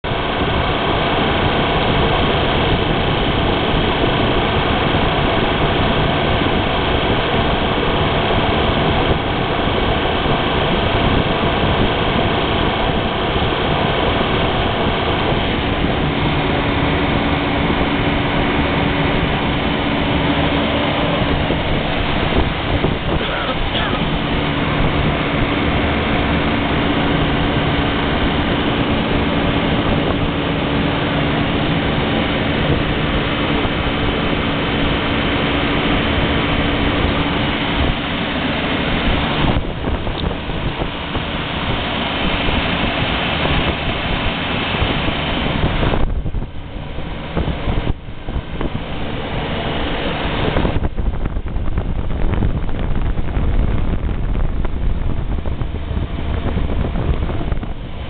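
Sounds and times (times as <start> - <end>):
compressor and fan hum: 0.0 - 58.0
rush of air: 0.0 - 58.0.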